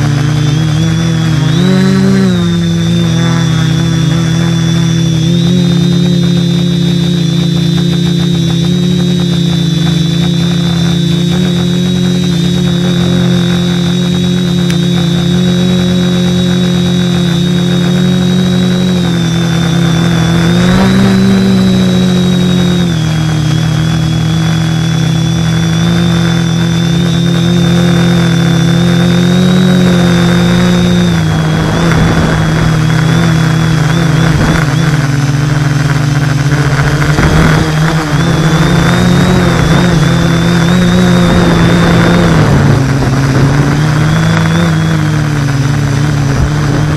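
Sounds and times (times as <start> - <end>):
model aircraft motor humming: 0.0 - 46.9
wind noise: 0.0 - 46.9.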